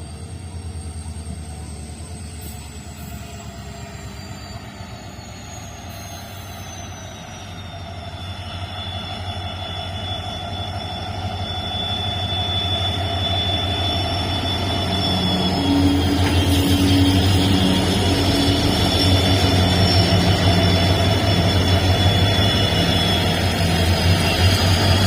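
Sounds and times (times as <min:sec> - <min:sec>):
diesel locomotives humming: 0:00.0 - 0:25.0.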